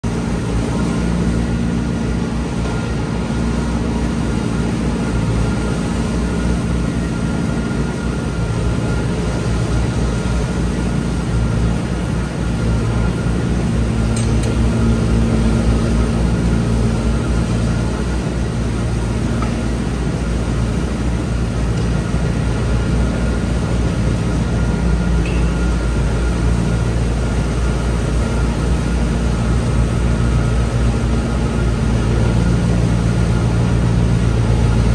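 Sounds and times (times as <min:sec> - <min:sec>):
bale processor rotor and fan: 0:00.0 - 0:34.9
thin steady whine: 0:00.1 - 0:34.9
tractor engine running: 0:02.0 - 0:34.9.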